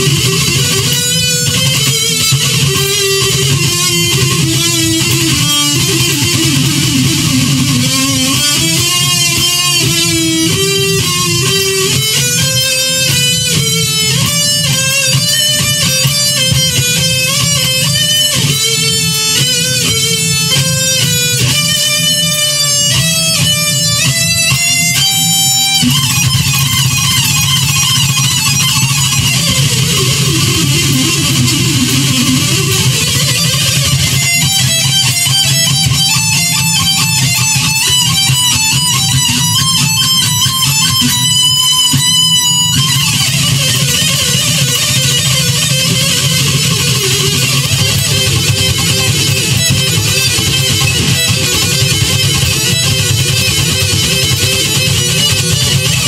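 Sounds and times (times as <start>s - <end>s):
backing track: 0.0s - 56.0s
distorted electric guitar lead: 0.0s - 56.0s.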